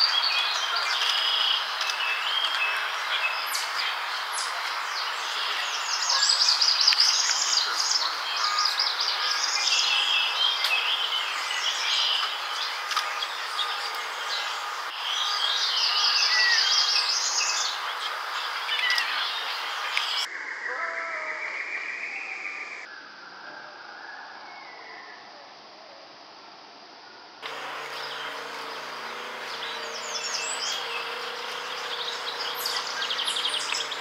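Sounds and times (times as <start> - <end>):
songbirds singing: 0.0 - 22.9, 27.4 - 34.0.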